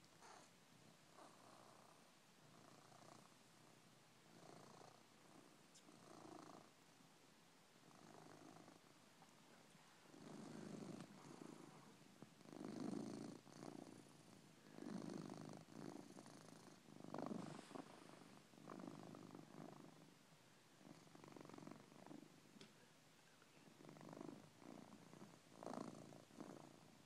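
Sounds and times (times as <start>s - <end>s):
cat snoring faintly: 0.0s - 6.9s, 7.8s - 27.0s.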